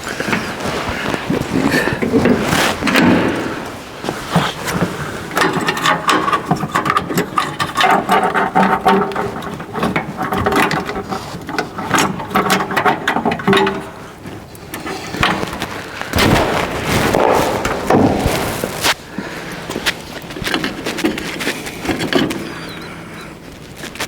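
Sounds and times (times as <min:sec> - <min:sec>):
parts clicking and rattling: 0:00.0 - 0:24.0.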